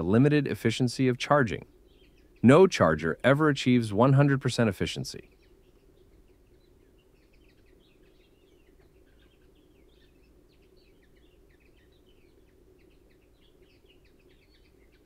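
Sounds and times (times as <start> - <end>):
faint birds chirping: 0.0 - 15.0
low steady hum: 0.0 - 15.0.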